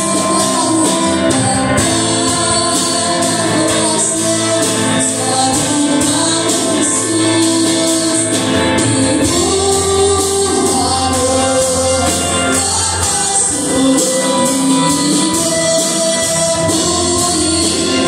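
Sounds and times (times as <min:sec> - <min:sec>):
live band playing: 0:00.0 - 0:18.0
woman singing into a microphone: 0:00.0 - 0:18.0.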